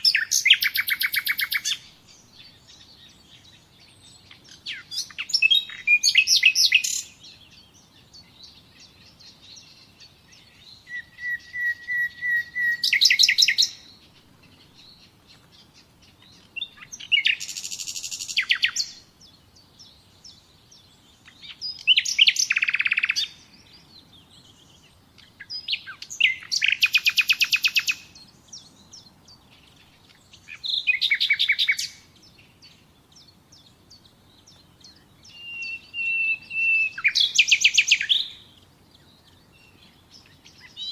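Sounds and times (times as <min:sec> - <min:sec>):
songbird trilling: 0:00.0 - 0:40.9.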